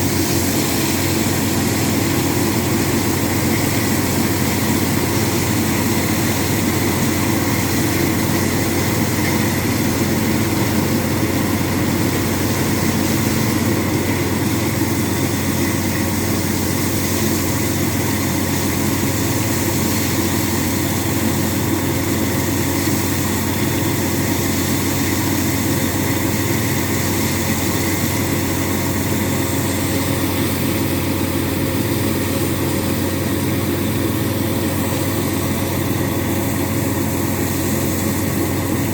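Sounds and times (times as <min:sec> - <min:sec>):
diesel drilling rig running: 0:00.0 - 0:38.9.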